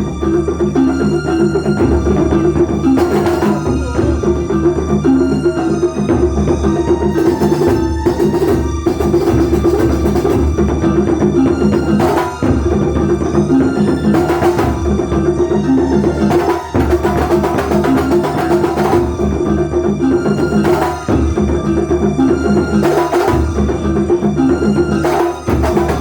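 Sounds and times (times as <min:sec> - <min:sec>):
drums and percussion ensemble: 0:00.0 - 0:26.0.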